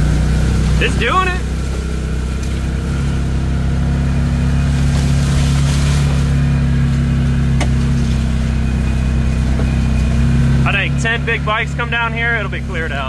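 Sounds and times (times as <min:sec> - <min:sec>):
off-road vehicle engine droning: 0:00.0 - 0:13.0.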